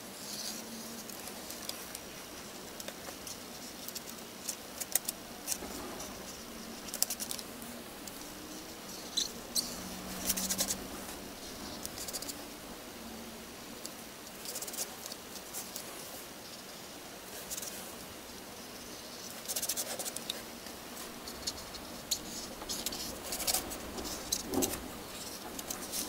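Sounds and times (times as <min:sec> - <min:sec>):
faint steady hum: 0:00.0 - 0:26.0
paper rustling: 0:00.2 - 0:12.8, 0:13.7 - 0:26.0.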